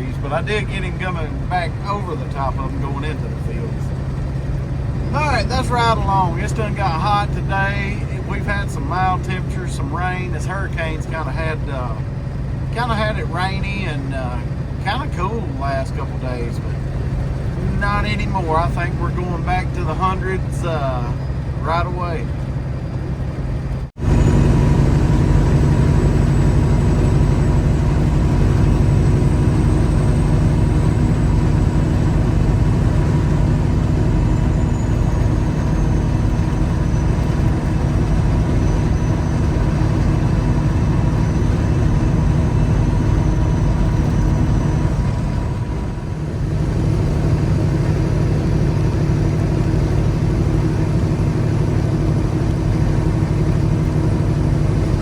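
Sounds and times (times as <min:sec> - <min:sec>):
road noise: 0:00.0 - 0:55.0
truck engine drone: 0:00.0 - 0:55.0.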